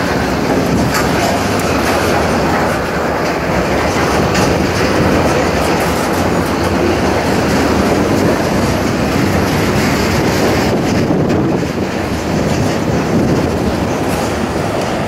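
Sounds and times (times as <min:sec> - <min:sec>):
train wheels rumbling on rails: 0:00.0 - 0:15.0
wheel clicks on rails: 0:00.0 - 0:15.0.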